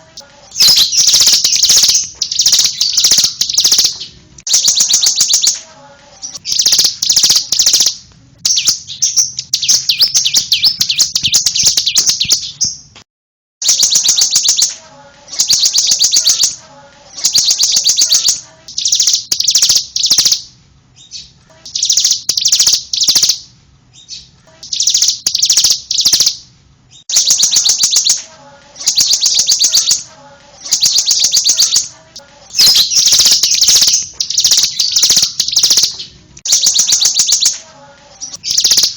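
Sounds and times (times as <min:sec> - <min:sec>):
bird chattering song: 0:00.0 - 0:12.9, 0:13.6 - 0:38.9.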